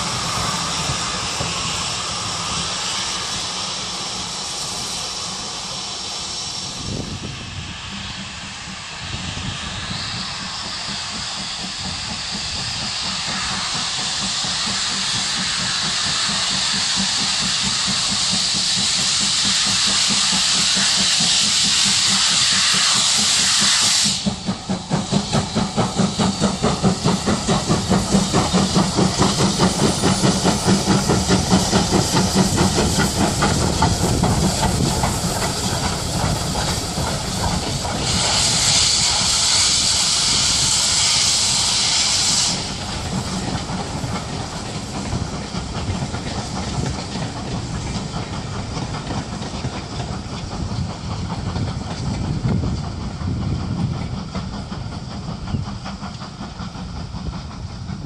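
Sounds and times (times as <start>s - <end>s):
coaches rumbling on rails: 0.0s - 58.0s
loud steam hiss: 0.0s - 58.0s
steam locomotive exhaust beat: 0.0s - 58.0s.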